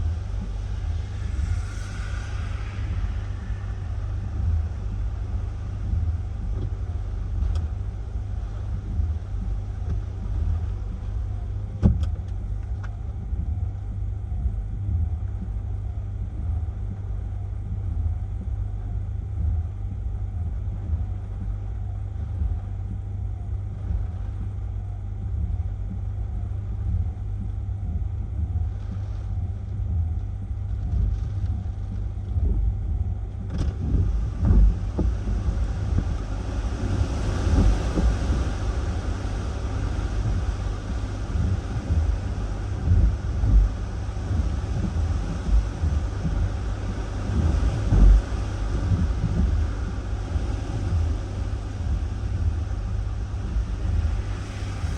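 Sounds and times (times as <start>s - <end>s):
wind buffeting microphone: 0.0s - 24.7s, 25.3s - 54.9s.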